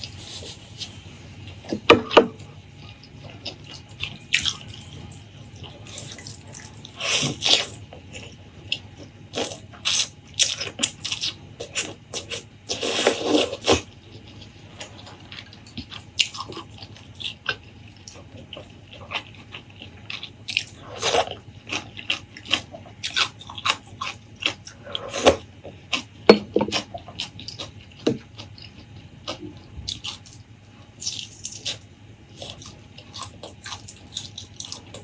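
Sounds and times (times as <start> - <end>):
wet chewing with mouth clicks: 0.0 - 35.0.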